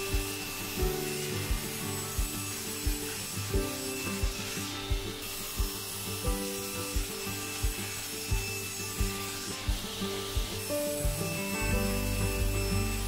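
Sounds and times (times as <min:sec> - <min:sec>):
background music with beat: 0:00.0 - 0:13.0
table saw ripping wood: 0:00.0 - 0:13.0.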